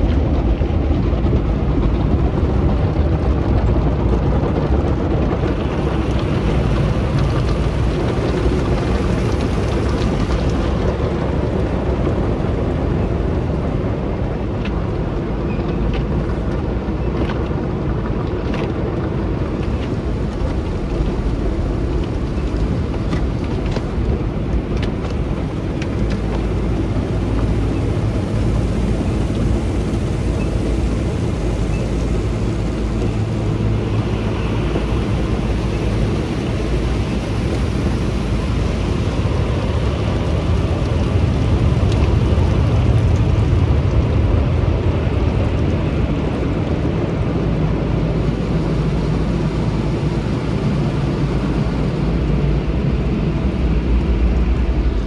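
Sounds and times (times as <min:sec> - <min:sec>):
car wash equipment rushing: 0:00.0 - 0:55.0.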